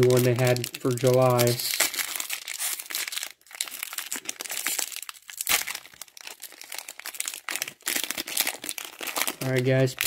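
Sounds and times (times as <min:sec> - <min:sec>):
wrapper crinkling and tearing: 0:00.0 - 0:10.0.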